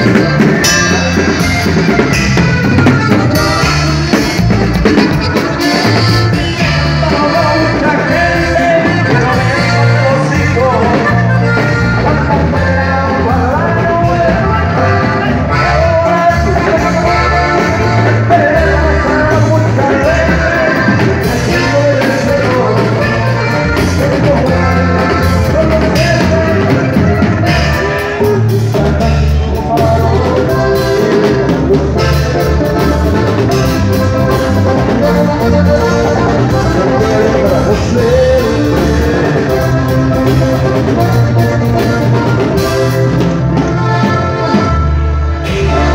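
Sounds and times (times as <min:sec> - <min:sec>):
man singing: 0:00.0 - 0:43.4
accordion: 0:00.0 - 0:45.9
drum kit beat: 0:00.0 - 0:45.9
guitar: 0:00.0 - 0:45.9.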